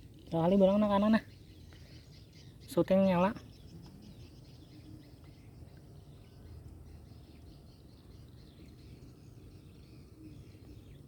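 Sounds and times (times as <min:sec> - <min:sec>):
birds and insects chirping: 0:00.0 - 0:11.0.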